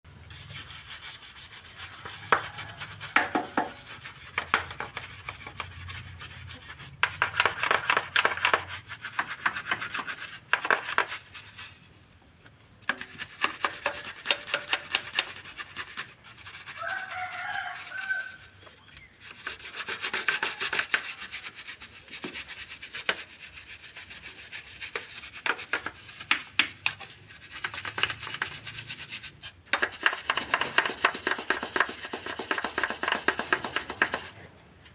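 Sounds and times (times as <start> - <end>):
rubbing on a hard surface: 0.3 - 12.2, 12.8 - 34.9.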